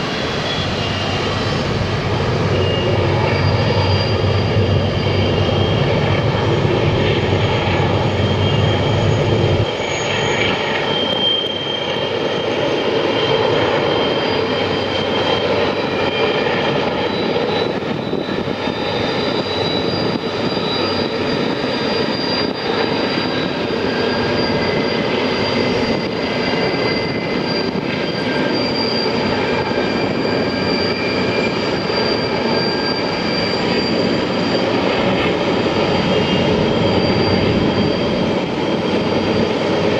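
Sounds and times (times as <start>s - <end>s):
thin high whines: 0.0s - 39.9s
train rumbling: 0.0s - 39.9s.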